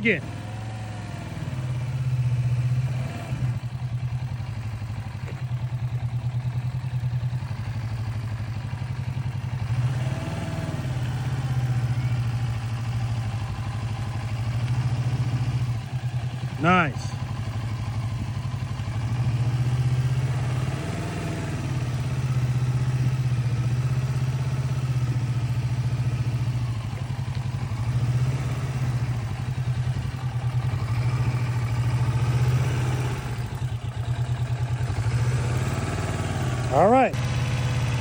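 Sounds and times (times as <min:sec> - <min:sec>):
motorcycle engine at low revs: 0:00.0 - 0:38.0.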